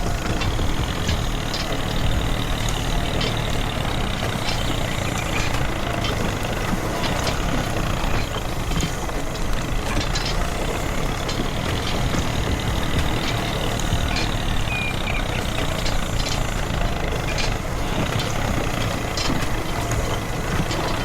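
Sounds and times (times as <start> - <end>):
light clicks and rattles: 0.0 - 21.0
truck engine running: 0.0 - 21.0.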